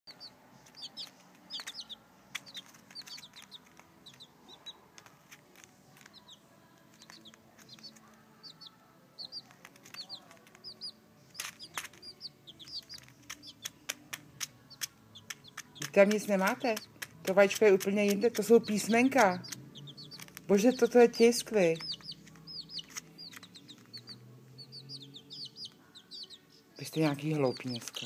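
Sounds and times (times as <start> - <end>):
beaks pecking at newspaper: 0.1 - 28.0
chicks peeping: 0.1 - 28.0.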